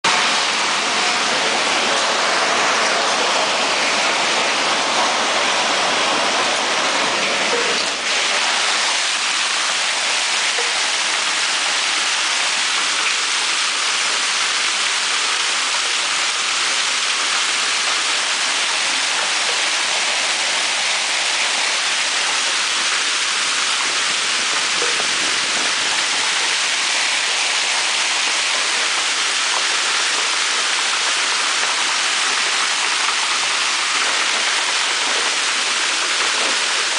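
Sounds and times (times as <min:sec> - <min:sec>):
hail and rain falling hard: 0:00.1 - 0:36.9.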